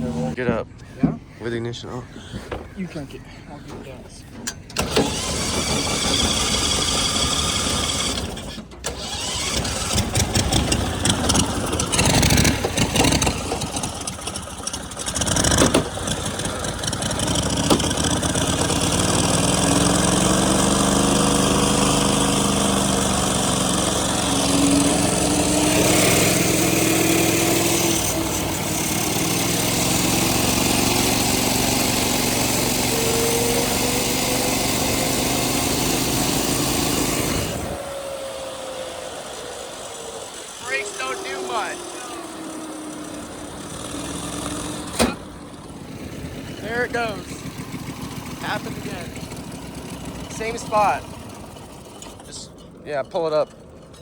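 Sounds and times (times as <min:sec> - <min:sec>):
go-kart engine sputtering and revving: 0:00.0 - 0:00.4, 0:04.2 - 0:54.0.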